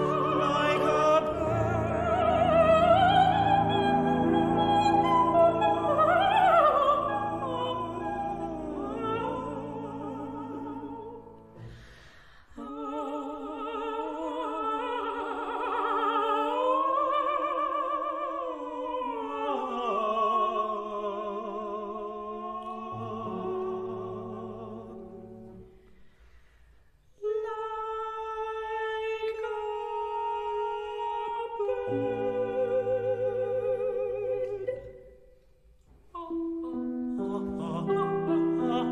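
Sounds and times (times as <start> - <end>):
woman singing opera: 0.0 - 11.6, 12.4 - 25.5, 27.2 - 35.3, 36.1 - 38.9.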